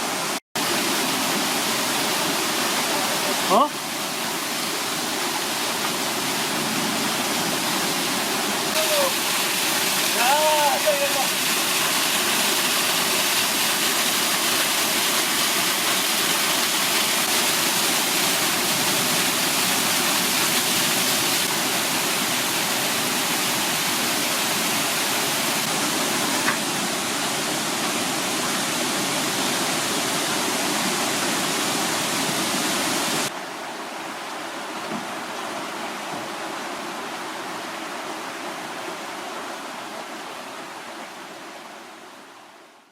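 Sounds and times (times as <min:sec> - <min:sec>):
stream cascading over rocks: 0:00.0 - 0:42.9.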